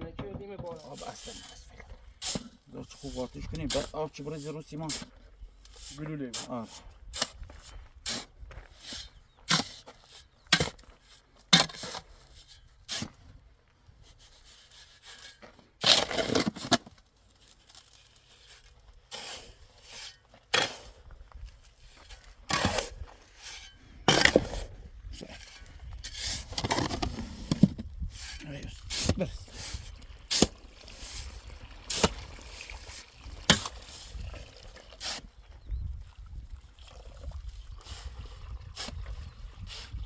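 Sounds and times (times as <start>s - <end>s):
hand tool scraping wet mortar: 0.6s - 13.4s, 14.0s - 35.6s, 37.6s - 40.0s.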